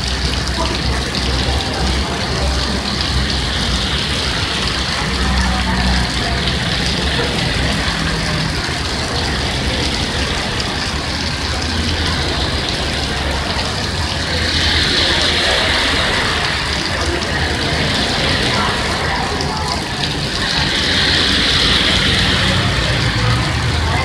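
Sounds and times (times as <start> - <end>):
steady rain: 0.0 - 24.0
tyres hissing on wet road: 0.0 - 24.0.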